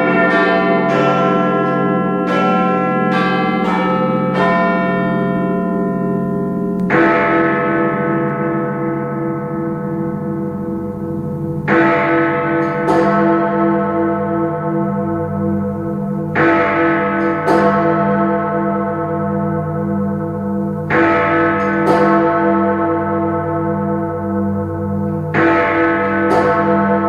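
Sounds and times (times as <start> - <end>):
large bell tolling: 0.0 - 27.0.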